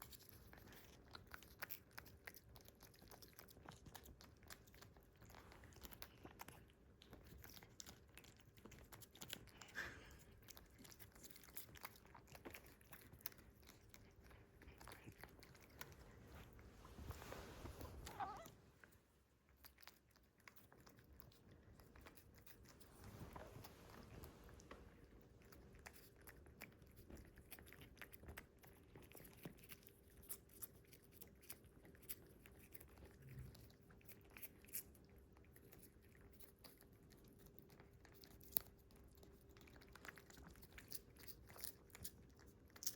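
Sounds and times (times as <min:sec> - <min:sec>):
cats lapping liquid: 0:00.0 - 0:42.9.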